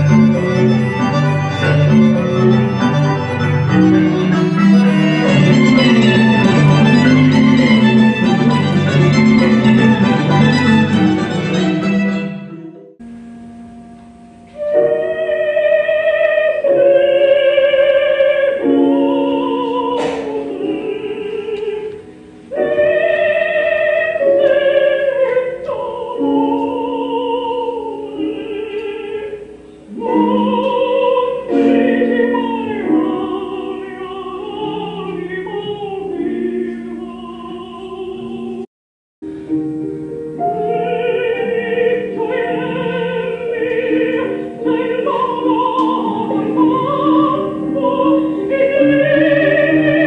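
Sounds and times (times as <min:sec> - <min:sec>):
operatic singing: 0:00.0 - 0:12.8, 0:14.6 - 0:38.7, 0:40.4 - 0:50.0.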